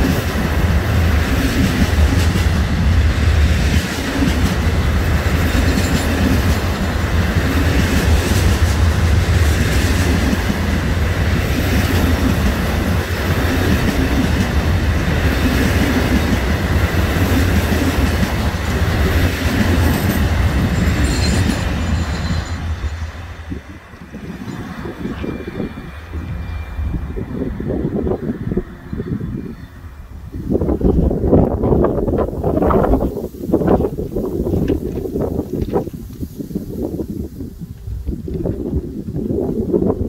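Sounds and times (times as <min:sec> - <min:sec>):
freight train wagons rumbling: 0:00.0 - 0:40.0.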